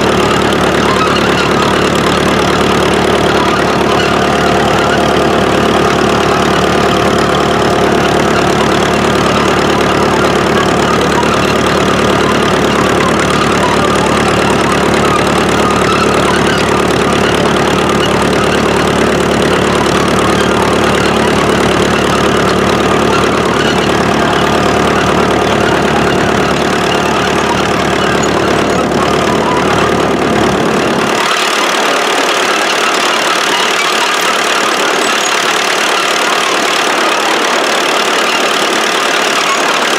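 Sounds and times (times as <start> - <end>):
diesel crawler engine rumbling: 0.0 - 39.9.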